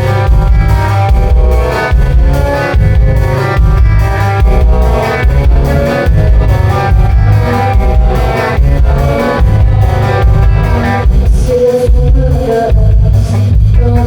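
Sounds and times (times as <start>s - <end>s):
electric guitar: 0.0s - 14.0s
pulsing bass: 0.0s - 14.0s.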